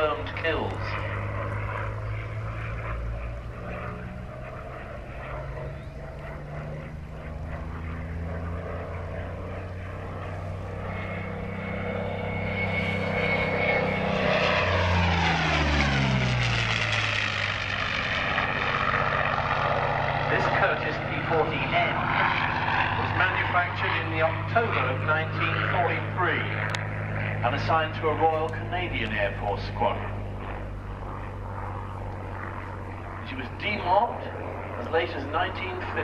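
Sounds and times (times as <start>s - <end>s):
propeller plane engine droning: 0.0s - 36.0s.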